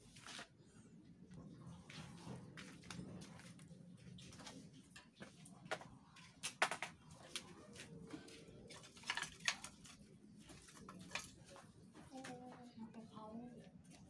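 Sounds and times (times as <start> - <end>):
footsteps in sandals: 1.8 - 14.0.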